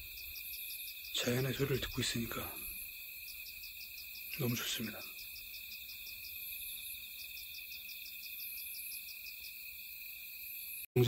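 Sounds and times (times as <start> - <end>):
crickets trilling: 0.0 - 11.0
insects chirping fast: 0.0 - 11.0.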